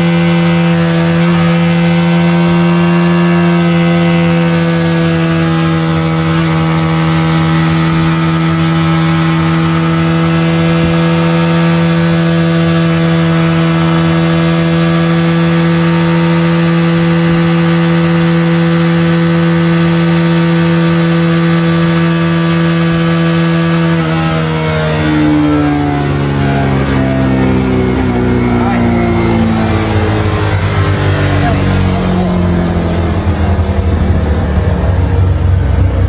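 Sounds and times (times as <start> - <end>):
motorcycle engine high revs: 0.0 - 36.0.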